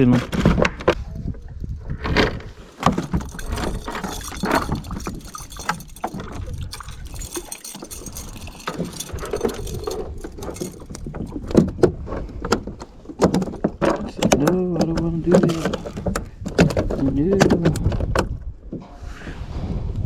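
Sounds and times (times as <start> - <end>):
gear knocking and scraping in kayak: 2.0 - 18.4.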